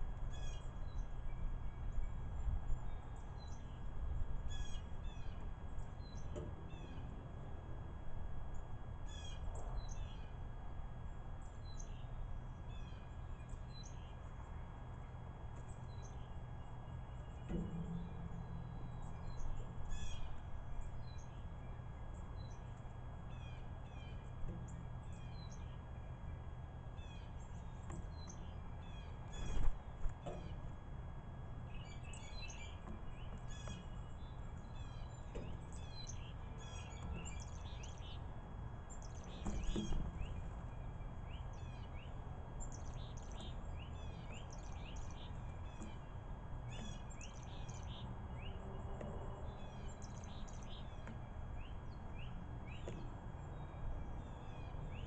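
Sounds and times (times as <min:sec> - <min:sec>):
steady low rumble: 0:00.0 - 0:55.0
small birds chirping: 0:00.2 - 0:55.0.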